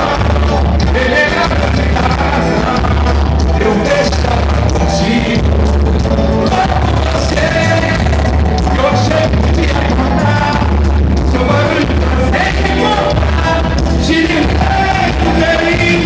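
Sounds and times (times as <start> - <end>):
heavy bass line: 0.0 - 16.0
person singing: 0.0 - 16.0.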